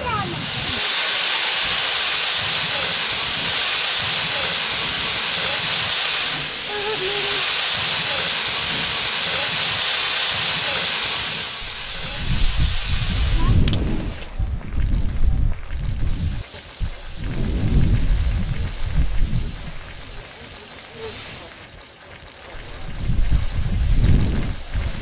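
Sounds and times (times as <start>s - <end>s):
steam locomotive hissing: 0.0s - 14.4s, 15.9s - 21.8s, 22.4s - 25.0s.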